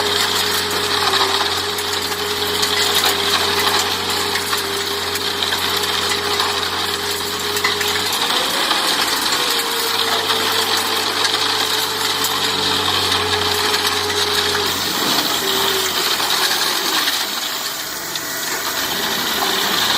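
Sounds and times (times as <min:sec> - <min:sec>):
concrete mixer running: 0:00.0 - 0:19.9
machine whine: 0:00.0 - 0:19.9
dense metallic clatter: 0:00.2 - 0:19.9.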